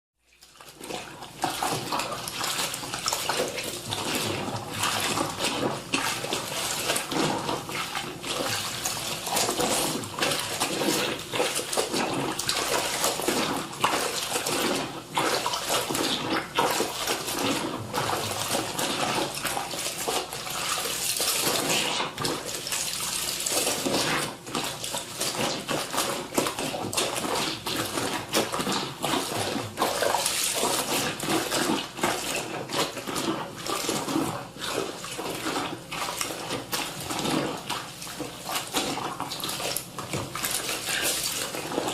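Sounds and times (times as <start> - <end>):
clothes sloshing in water: 0.3 - 41.9.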